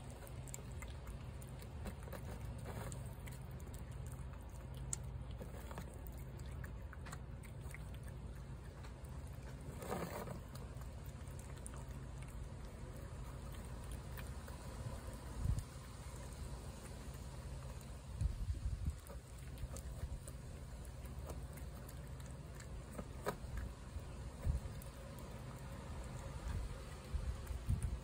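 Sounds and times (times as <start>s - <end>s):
cat chewing meat: 0.0s - 28.0s
low steady rumble: 0.0s - 28.0s.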